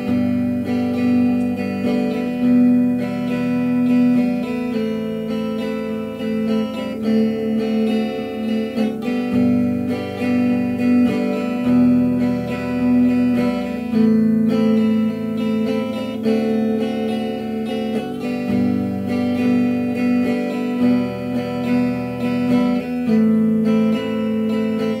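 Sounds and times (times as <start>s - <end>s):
strummed guitar music: 0.0s - 25.0s.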